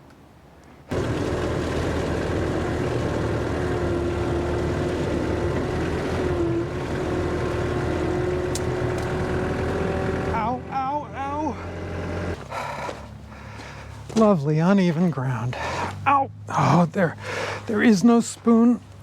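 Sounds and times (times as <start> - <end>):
engine whining and droning: 0.9 - 19.0.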